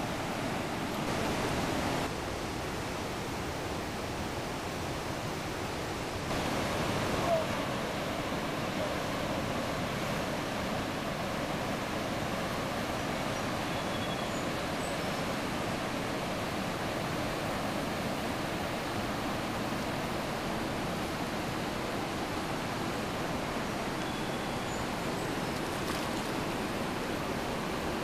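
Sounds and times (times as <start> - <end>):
river rapids rushing: 0.0 - 28.0.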